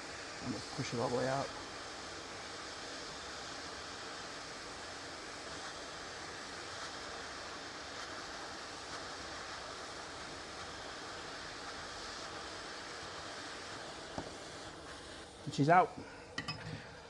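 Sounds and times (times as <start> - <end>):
hot air nozzle hissing: 0.0 - 16.4.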